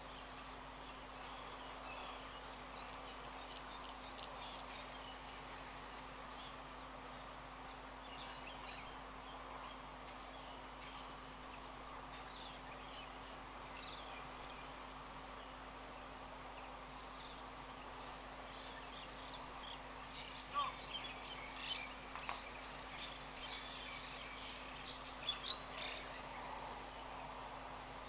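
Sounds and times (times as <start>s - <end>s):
birds chirping: 0.0s - 28.0s
faint steady hiss: 0.0s - 28.0s
low electrical hum: 0.0s - 28.0s.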